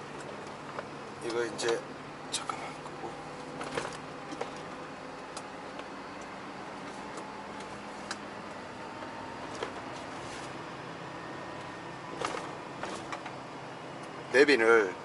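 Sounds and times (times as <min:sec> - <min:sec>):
truck engine and road hum: 0:00.0 - 0:15.0.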